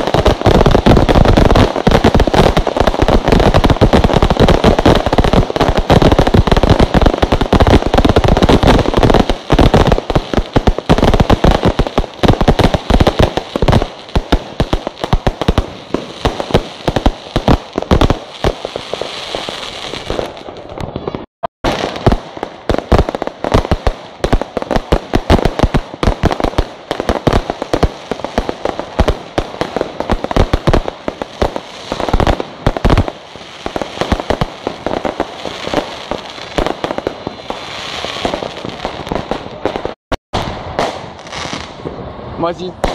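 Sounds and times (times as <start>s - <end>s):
fireworks bangs and crackling: 0.0s - 42.9s.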